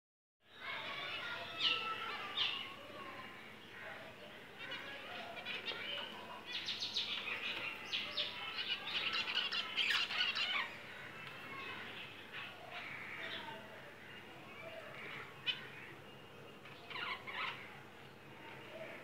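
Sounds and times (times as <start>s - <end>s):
budgerigars chirping and chattering: 0.9s - 17.8s.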